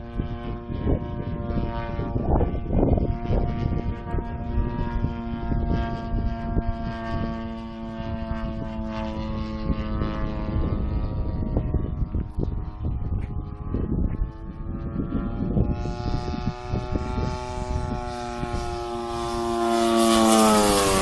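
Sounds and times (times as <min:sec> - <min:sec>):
model airplane engine drone: 0:00.0 - 0:21.0
wind rumbling on microphone: 0:00.0 - 0:21.0.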